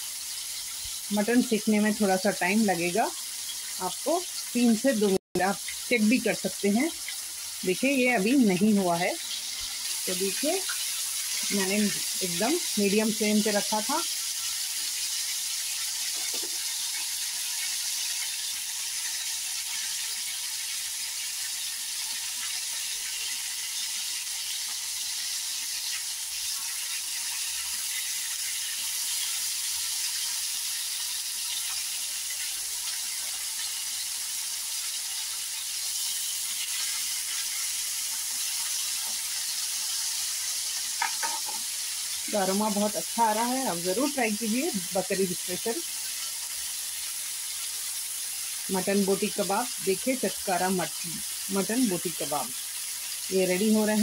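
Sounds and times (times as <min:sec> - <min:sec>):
meat sizzling on a griddle: 0:00.0 - 0:54.0.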